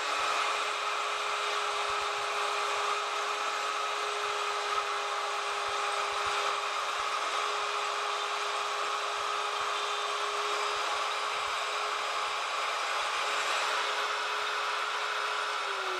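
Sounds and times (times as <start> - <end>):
router whining: 0.0 - 15.9.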